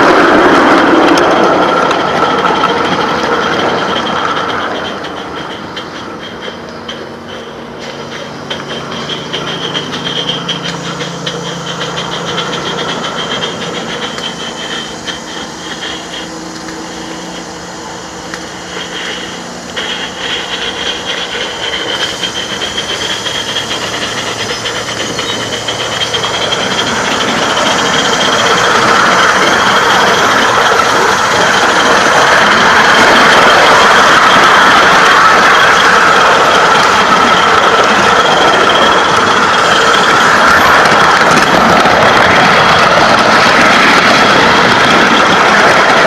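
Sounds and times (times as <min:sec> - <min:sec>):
steam hiss: 0:00.0 - 0:46.0
steam locomotive chuffing: 0:00.0 - 0:46.0.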